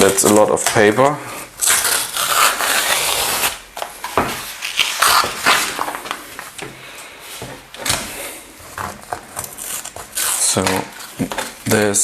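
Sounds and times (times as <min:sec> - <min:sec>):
paper and cardboard rustling: 0:00.0 - 0:06.8, 0:07.4 - 0:12.0.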